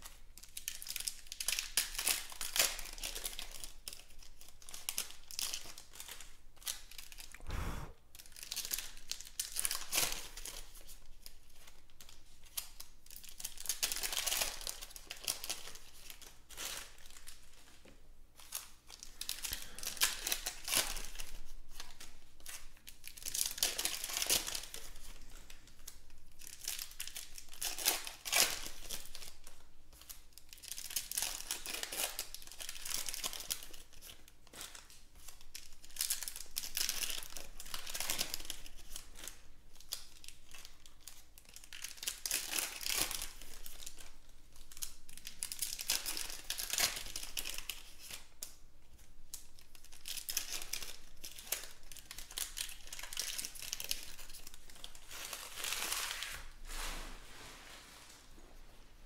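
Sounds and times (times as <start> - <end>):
foil wrappers crinkling and tearing: 0.0 - 7.3, 8.2 - 56.6.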